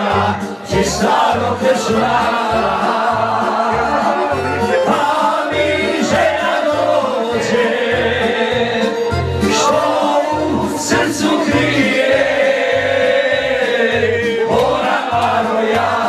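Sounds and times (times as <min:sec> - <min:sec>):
men singing together: 0:00.0 - 0:16.0
music with pulsing bass: 0:00.0 - 0:16.0.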